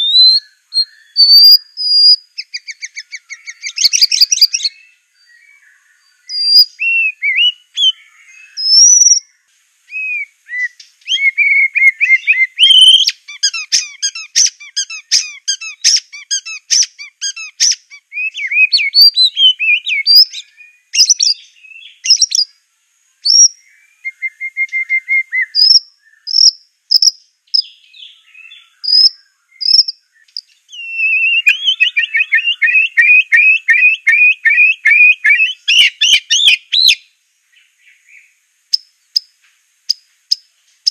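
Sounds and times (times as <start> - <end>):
songbird singing whistled phrases: 0.0 - 22.6, 23.2 - 37.1, 39.9 - 40.9.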